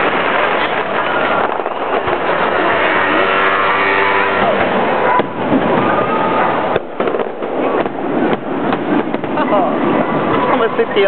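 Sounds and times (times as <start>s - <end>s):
fireworks bursts and crackle: 0.0s - 11.0s.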